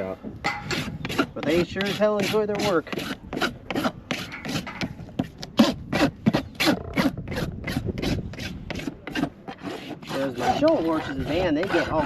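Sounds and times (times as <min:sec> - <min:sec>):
rasp filing a hoof: 0:00.4 - 0:12.0.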